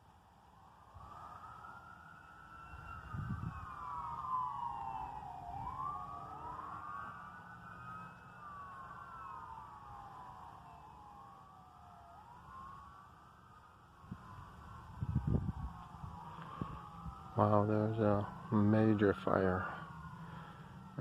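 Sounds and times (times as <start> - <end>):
emergency vehicle sirens wailing: 0.0 - 21.0.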